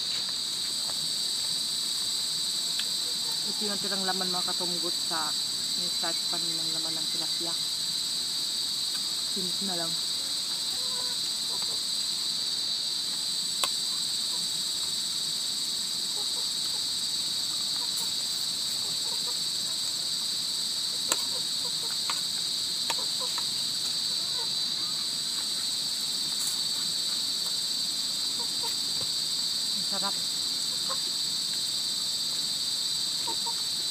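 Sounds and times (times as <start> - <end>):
insects shrilling: 0.0 - 33.9.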